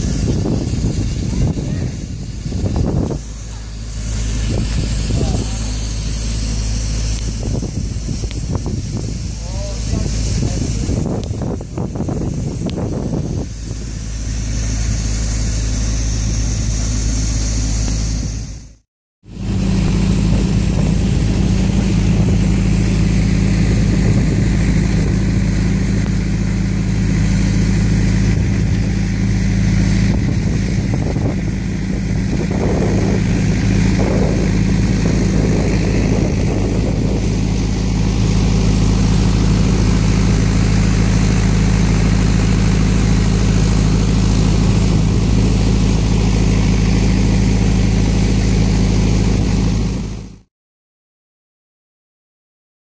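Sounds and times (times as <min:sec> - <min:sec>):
rattly noise: 0:00.0 - 0:18.5, 0:19.5 - 0:49.6
low mechanical drone: 0:00.0 - 0:50.5.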